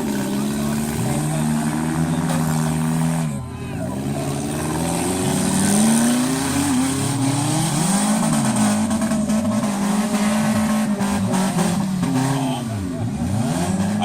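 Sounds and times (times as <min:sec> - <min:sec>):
car engines revving hard: 0:00.0 - 0:14.0.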